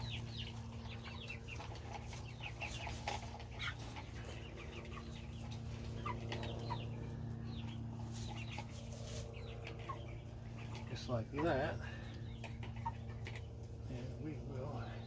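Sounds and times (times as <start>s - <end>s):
chicks peeping and chirping: 0.0s - 15.0s
steady low hum: 0.0s - 15.0s.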